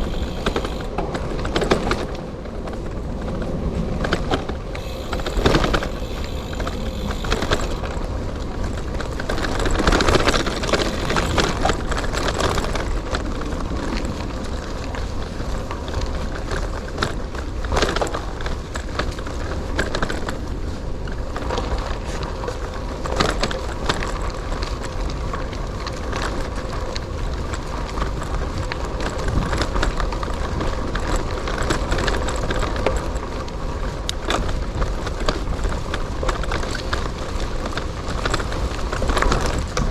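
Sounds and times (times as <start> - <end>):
bike rattling over bumps: 0.0 - 39.9
bike tyres rumbling: 0.0 - 39.9.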